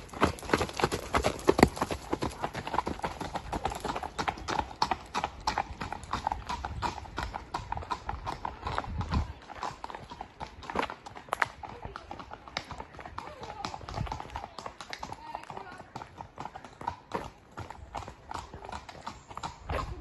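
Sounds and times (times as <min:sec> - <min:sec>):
hooves on gravel: 0:00.0 - 0:20.0.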